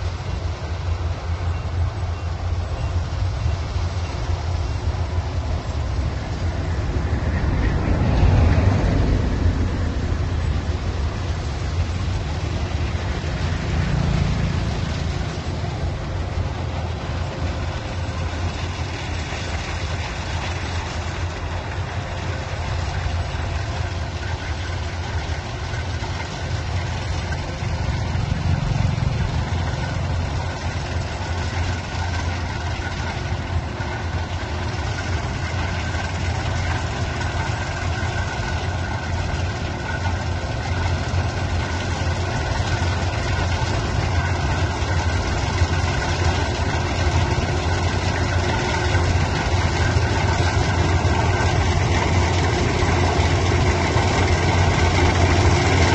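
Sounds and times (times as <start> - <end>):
heavy machine engine humming: 0.0 - 55.9.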